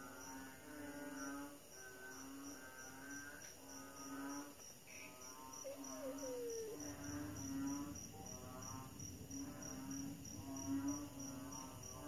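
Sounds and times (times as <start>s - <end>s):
crickets chirping: 0.0s - 12.0s
frogs calling: 0.0s - 12.0s.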